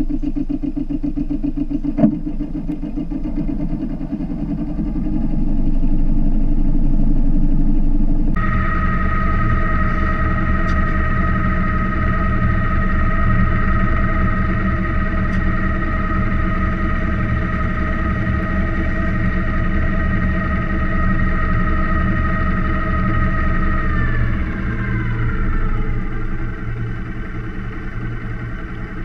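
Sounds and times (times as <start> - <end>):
diesel engine throbbing: 0.0 - 29.0
high whine: 0.0 - 29.0.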